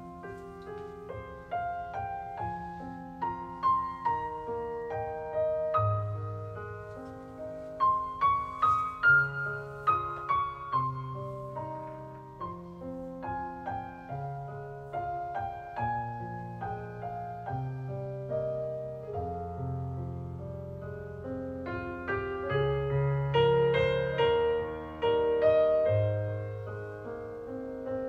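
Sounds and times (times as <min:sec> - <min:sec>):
solo piano melody: 0:00.0 - 0:28.0.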